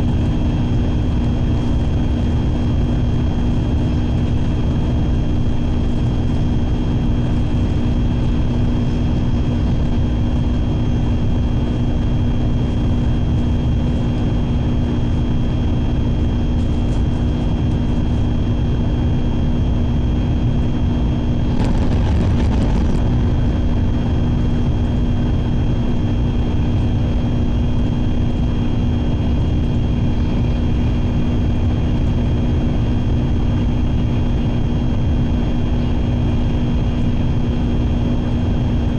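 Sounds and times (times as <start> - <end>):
train rumble inside cabin: 0.0 - 38.9.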